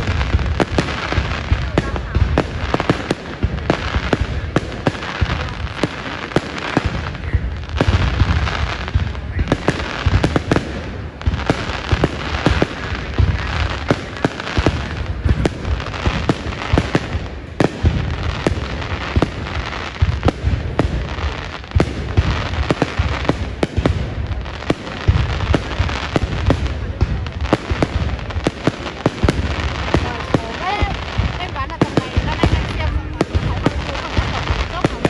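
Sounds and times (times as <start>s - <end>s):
fireworks bangs and booms: 0.0s - 35.0s
fireworks crackling: 0.0s - 35.0s.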